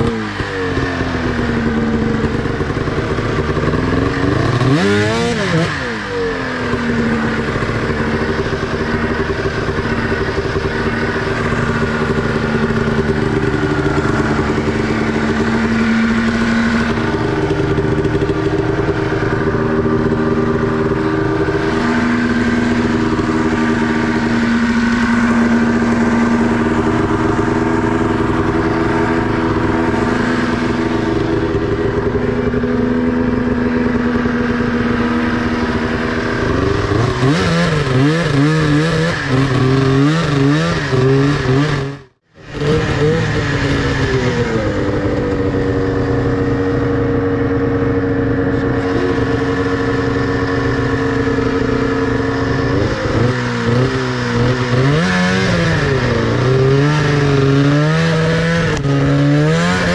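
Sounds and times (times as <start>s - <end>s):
snowmobile engine running hard: 0.0s - 59.9s.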